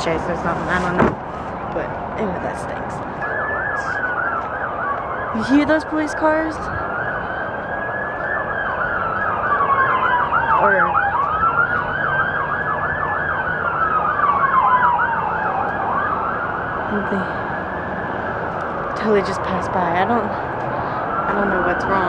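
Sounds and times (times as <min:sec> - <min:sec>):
police siren wail: 0:00.1 - 0:22.0
police siren yelp: 0:03.1 - 0:22.0.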